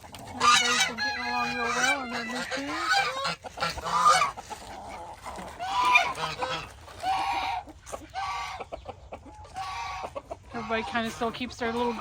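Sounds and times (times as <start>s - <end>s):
poultry flock calling: 0.0s - 12.0s.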